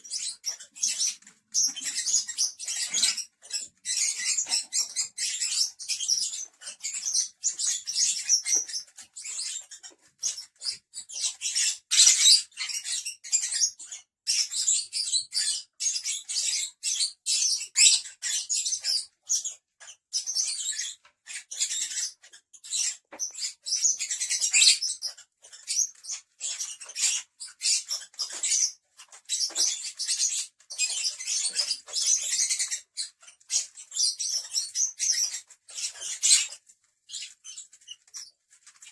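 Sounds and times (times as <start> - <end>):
birds chirping and squeaking: 0.0 - 38.9.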